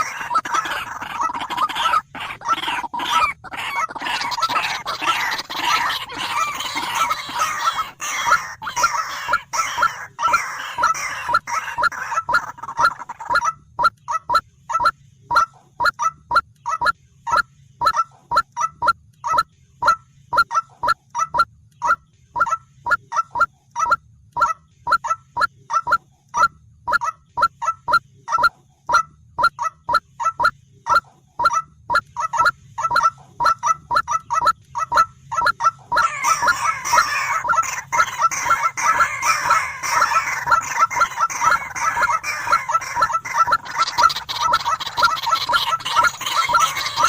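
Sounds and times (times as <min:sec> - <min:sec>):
waterhen calling: 0:00.0 - 0:47.0.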